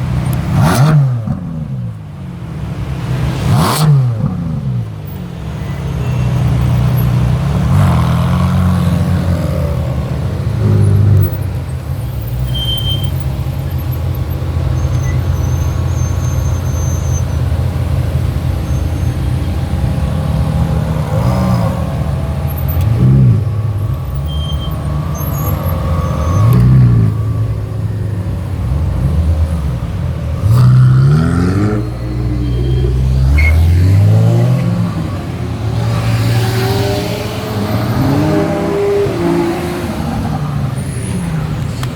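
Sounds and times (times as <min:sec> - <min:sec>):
engine revs: 0:00.0 - 0:02.0, 0:02.7 - 0:12.5, 0:13.1 - 0:41.9
sports car engines rolling past: 0:00.0 - 0:41.9.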